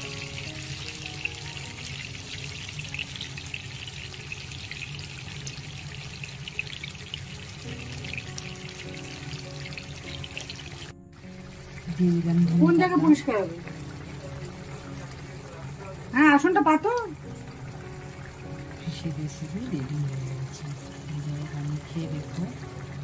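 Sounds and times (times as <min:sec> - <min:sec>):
background music with held notes: 0:00.0 - 0:23.0.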